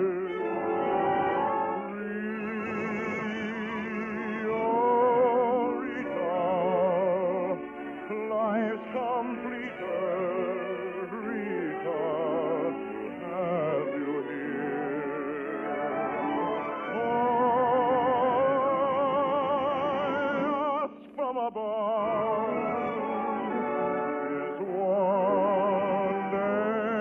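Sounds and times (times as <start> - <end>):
operetta singing with vibrato: 0.0 - 27.0
orchestral accompaniment: 0.0 - 27.0.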